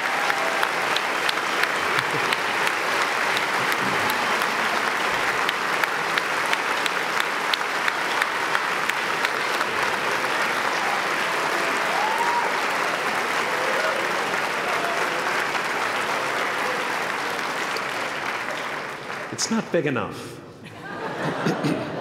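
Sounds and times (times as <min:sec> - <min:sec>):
large audience applauding: 0:00.0 - 0:19.8.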